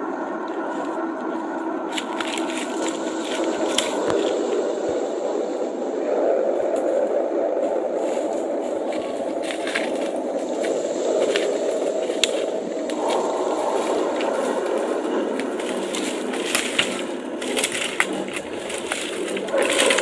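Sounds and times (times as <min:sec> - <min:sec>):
steady rushing noise: 0:00.0 - 0:20.0
footsteps crunching dry leaves: 0:00.6 - 0:04.9, 0:08.0 - 0:20.0.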